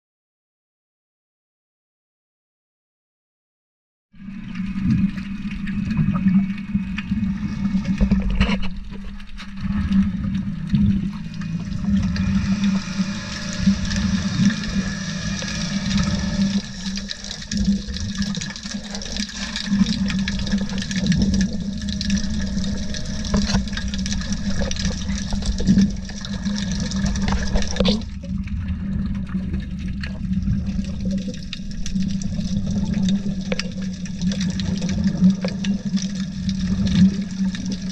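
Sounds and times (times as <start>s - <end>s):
steady low hum: 4.2s - 37.9s
underwater bubbles rushing and gurgling: 4.2s - 37.9s.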